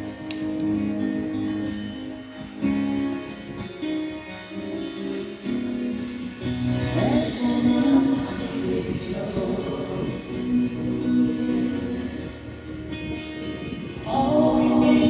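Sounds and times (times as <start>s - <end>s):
amplified guitar melody: 0.0s - 15.0s.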